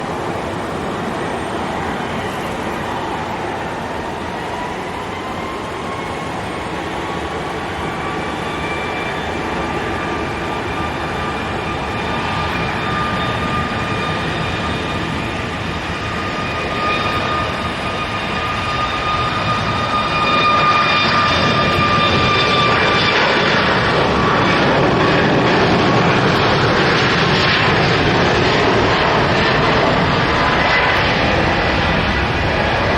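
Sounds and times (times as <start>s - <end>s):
jet engines spooling up: 0.0s - 32.9s.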